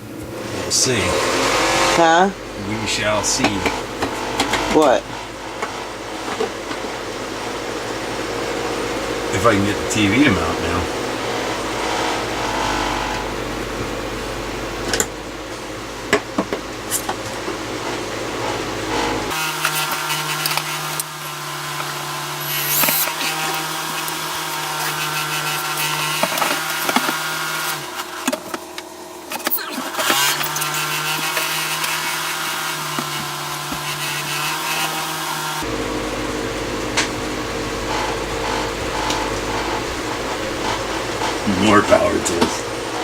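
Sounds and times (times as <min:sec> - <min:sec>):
steady mechanical hum: 0:00.0 - 0:43.0
power tool motor running: 0:00.2 - 0:43.0.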